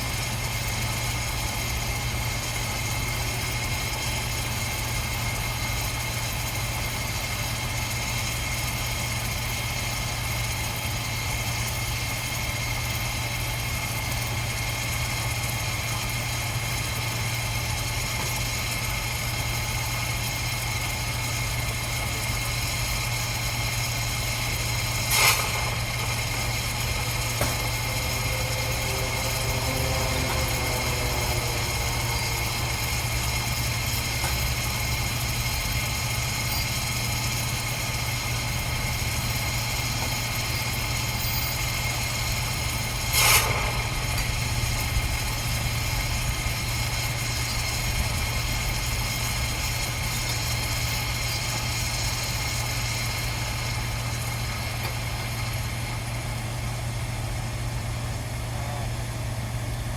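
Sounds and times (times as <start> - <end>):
machinery hum with high whine: 0.0 - 59.9.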